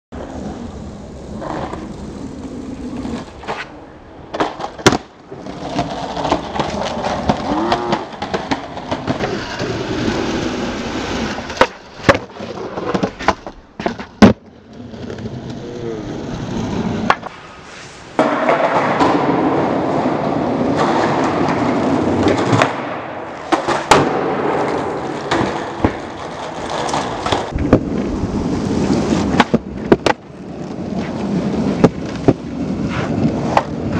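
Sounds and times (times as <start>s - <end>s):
skateboard wheels rolling on concrete: 0.1s - 33.9s
skateboard clacks: 1.3s - 15.6s, 16.6s - 17.4s, 18.2s - 33.9s.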